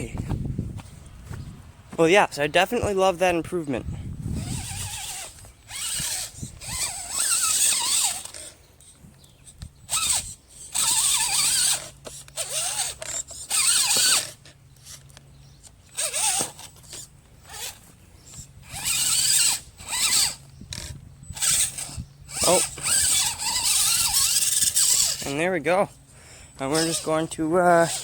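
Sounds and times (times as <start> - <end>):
toy car motor whining: 4.2 - 28.0.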